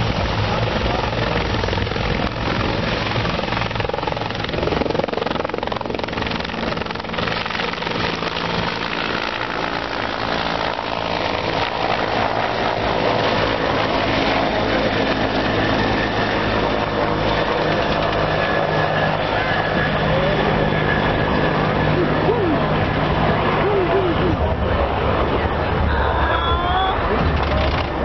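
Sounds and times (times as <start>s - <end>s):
helicopters flying low past: 0.0s - 28.0s.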